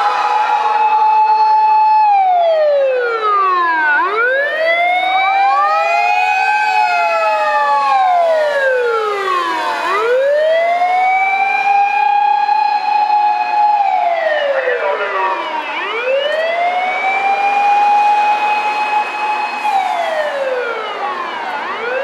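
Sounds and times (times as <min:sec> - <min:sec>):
fire engine sirens wailing: 0:00.0 - 0:22.0.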